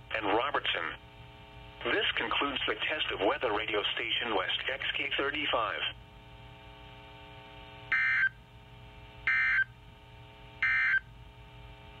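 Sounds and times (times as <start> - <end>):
faint steady hum of tones: 0.0 - 12.0.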